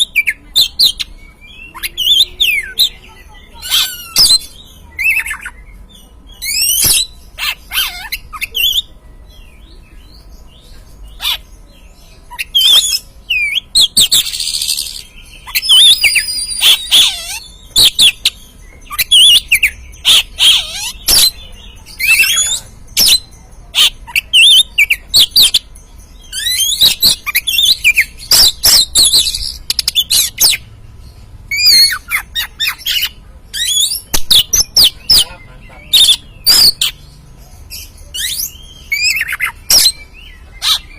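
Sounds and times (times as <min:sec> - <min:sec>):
bird singing whistles and chatter: 0:00.0 - 0:30.7, 0:31.5 - 0:40.9.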